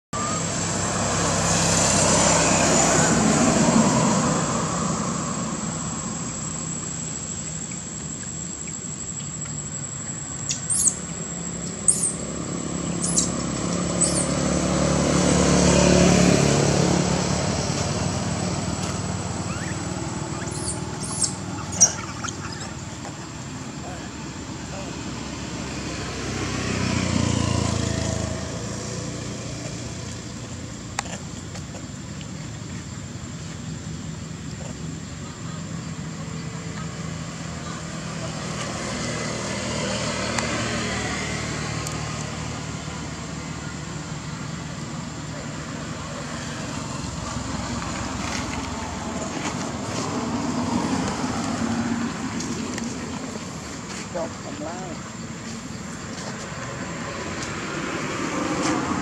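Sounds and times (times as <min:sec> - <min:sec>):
vehicle passing by: 0:00.2 - 0:59.0.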